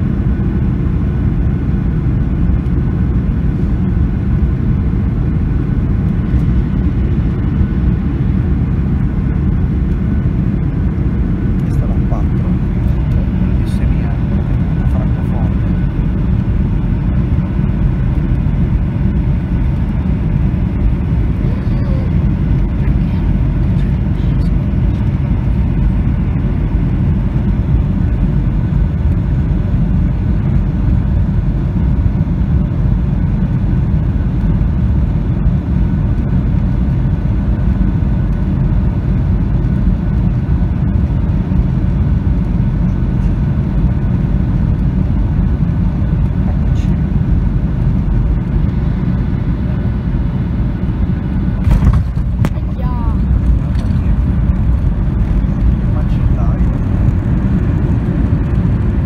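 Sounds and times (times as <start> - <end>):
airplane cabin engine noise: 0.0 - 59.0.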